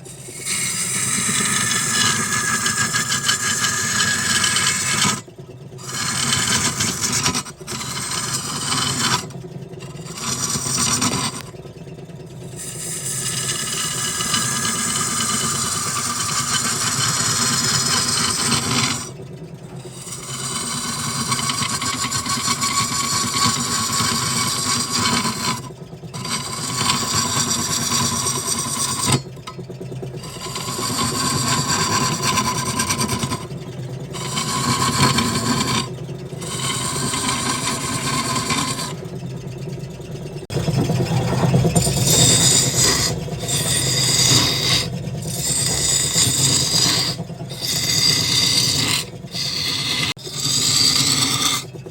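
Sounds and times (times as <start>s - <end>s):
lathe motor hum: 0.0s - 51.9s
tool scraping spinning wood: 0.0s - 51.9s.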